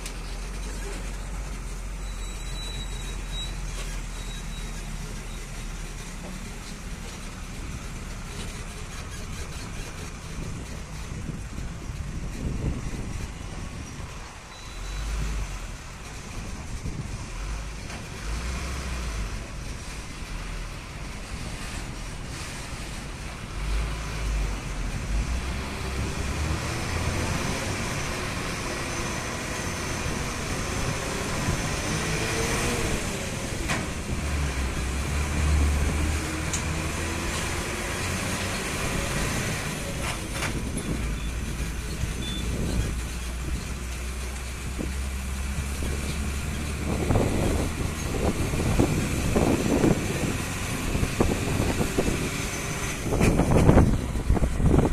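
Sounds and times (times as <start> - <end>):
diesel truck engine rumble: 0.0 - 54.9
road noise: 0.0 - 54.9.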